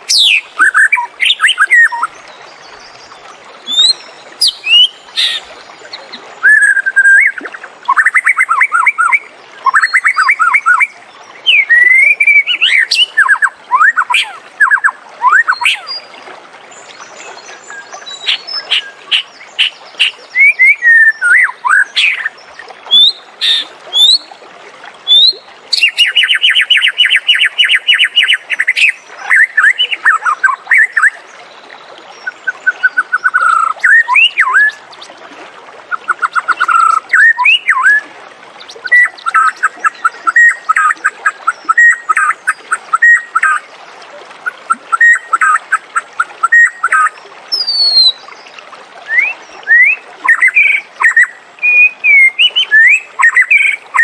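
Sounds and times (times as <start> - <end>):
bird singing whistles and trills: 0.1 - 2.1, 3.6 - 16.1, 17.4 - 24.3, 25.1 - 31.2, 32.2 - 35.0, 36.0 - 43.6, 44.4 - 48.2, 49.1 - 54.0.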